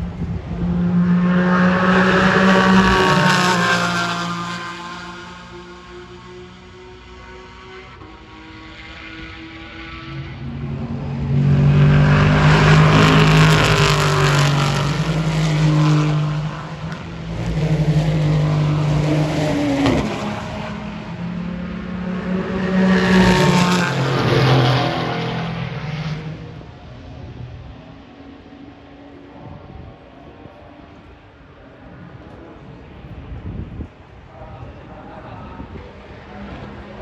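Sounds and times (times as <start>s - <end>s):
race cars passing at speed: 0.0s - 37.0s.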